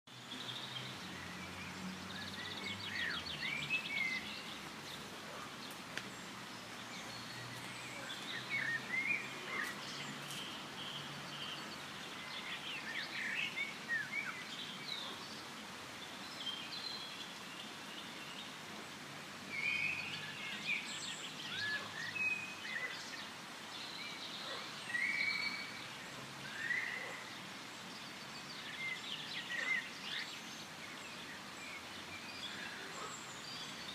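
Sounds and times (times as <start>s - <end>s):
background hiss: 0.1s - 33.9s
birds chirping: 0.1s - 33.9s.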